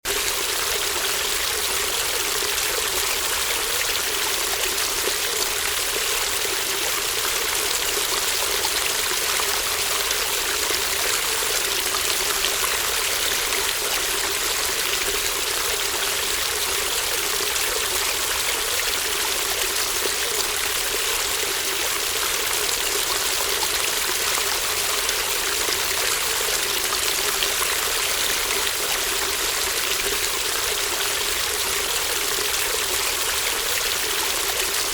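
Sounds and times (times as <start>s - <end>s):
stream murmuring: 0.0s - 34.9s.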